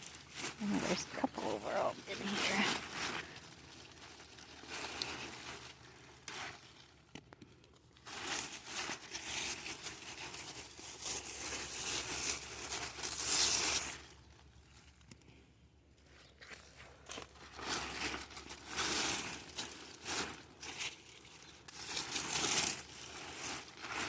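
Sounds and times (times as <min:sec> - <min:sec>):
vines and leaves rustling: 0:00.0 - 0:24.0.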